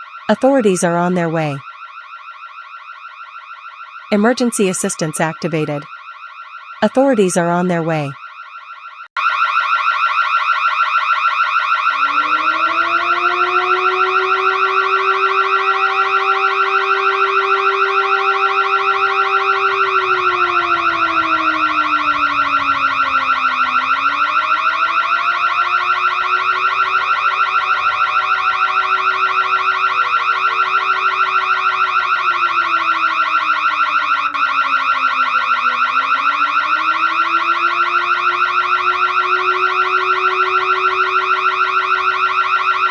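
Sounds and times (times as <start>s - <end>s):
burglar alarm pulsing tone: 0.0s - 42.9s
siren wailing: 0.0s - 42.9s.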